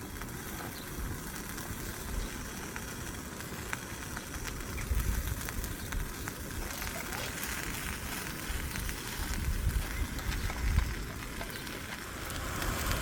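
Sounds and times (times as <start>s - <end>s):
steak frying in a pan: 0.0s - 13.0s.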